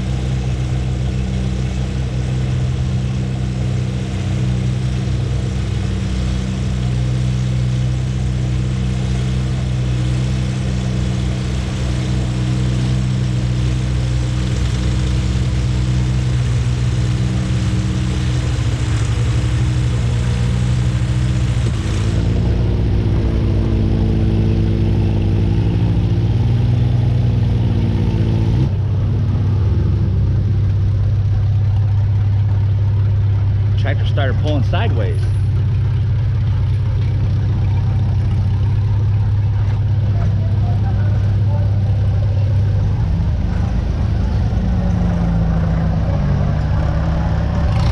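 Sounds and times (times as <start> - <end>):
tractor engine running hard: 0.0 - 47.9.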